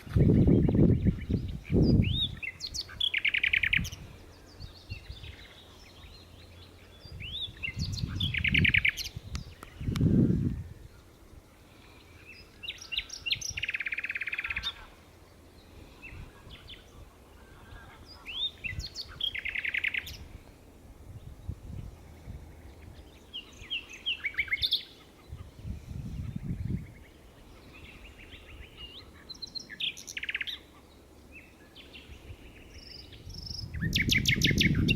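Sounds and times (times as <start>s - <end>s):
nightingale singing: 0.0s - 20.5s, 21.1s - 34.9s.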